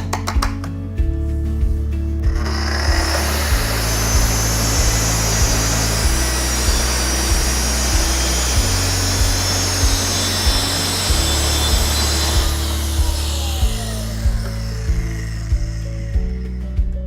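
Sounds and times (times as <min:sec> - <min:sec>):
circular saw cutting board: 0:02.3 - 0:16.6.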